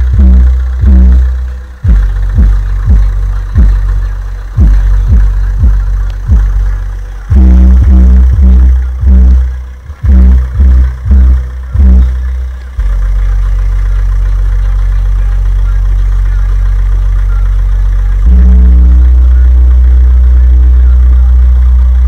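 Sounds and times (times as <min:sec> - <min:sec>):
subwoofer playing bass-heavy music: 0:00.0 - 0:22.0.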